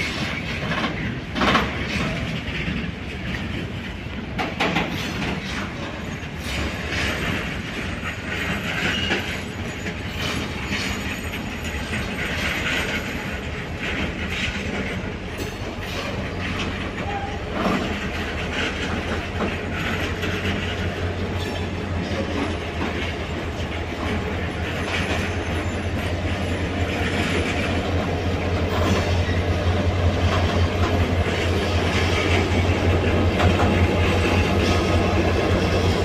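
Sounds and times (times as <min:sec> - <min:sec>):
train wheels clicking over rail joints: 0:00.0 - 0:36.0.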